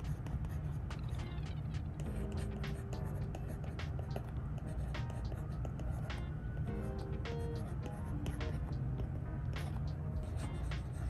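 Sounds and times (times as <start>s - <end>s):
steady low hum: 0.0s - 11.0s
stylus scratching and tapping screen: 0.0s - 11.0s.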